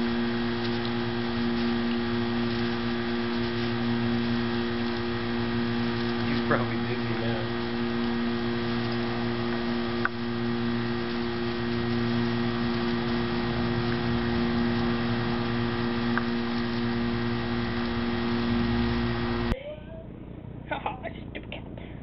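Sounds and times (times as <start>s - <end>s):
steady hum of held tones: 0.0s - 22.0s.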